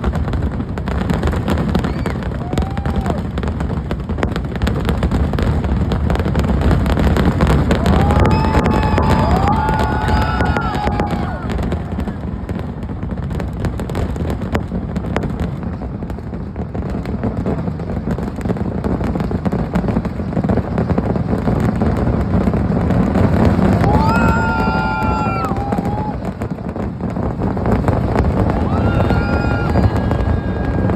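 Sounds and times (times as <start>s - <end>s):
firecrackers barrage: 0.0s - 30.9s.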